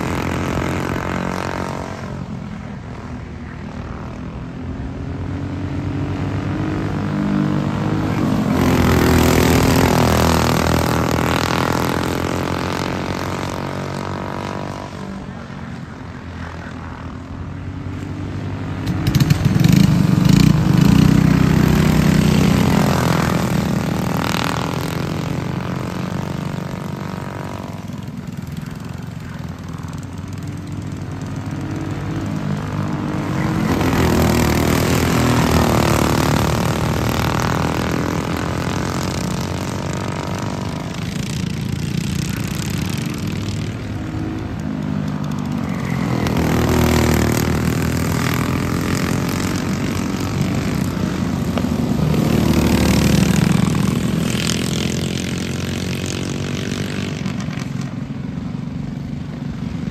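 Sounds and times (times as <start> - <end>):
go-kart engines buzzing: 0.0 - 59.9.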